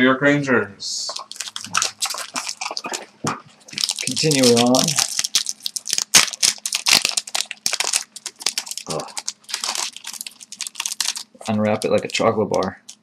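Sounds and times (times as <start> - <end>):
wrapper crinkling and tearing: 1.1 - 13.0.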